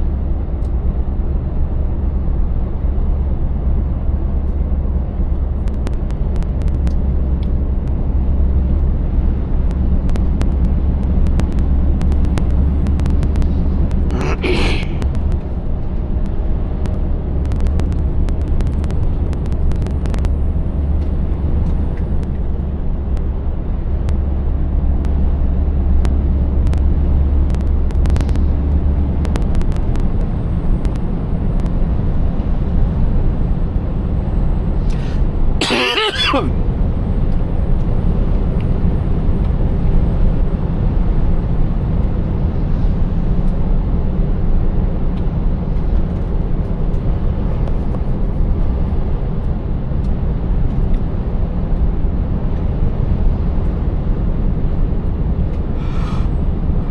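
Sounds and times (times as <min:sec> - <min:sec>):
road and tyre noise: 0:00.0 - 0:56.9.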